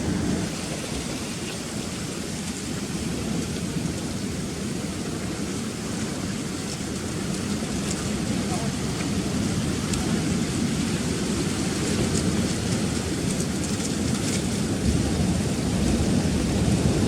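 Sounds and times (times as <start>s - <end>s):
surf breaking against rocks: 0.0s - 17.0s
wind: 0.0s - 17.0s.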